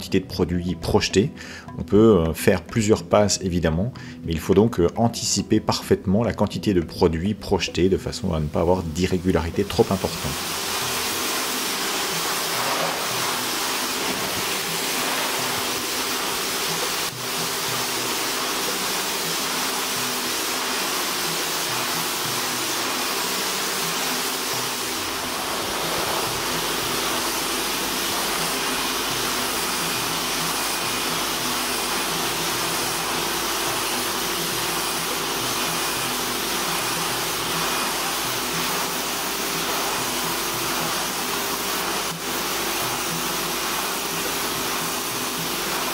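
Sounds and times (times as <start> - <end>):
spray-foam gun hissing: 8.6 - 45.9.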